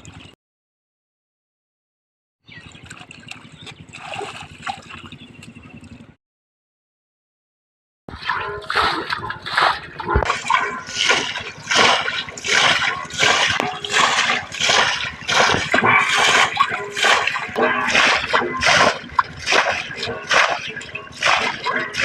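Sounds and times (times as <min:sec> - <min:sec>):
water splashing rhythmically: 0:00.0 - 0:00.4, 0:02.4 - 0:06.2, 0:08.1 - 0:22.0.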